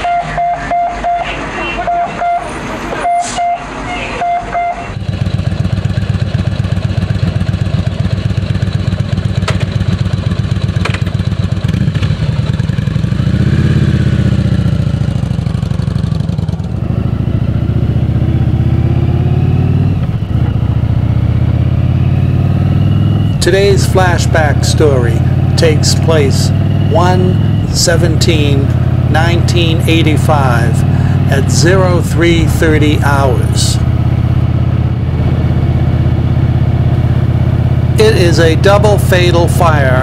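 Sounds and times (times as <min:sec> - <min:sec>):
motorcycle engine running: 0:04.9 - 0:40.0.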